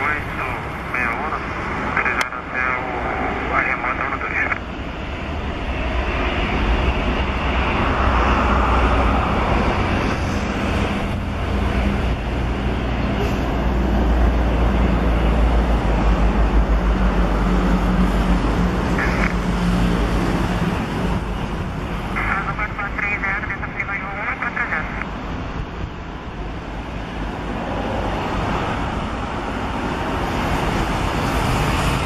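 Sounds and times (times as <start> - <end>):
jet engine rumble: 0.0 - 32.0.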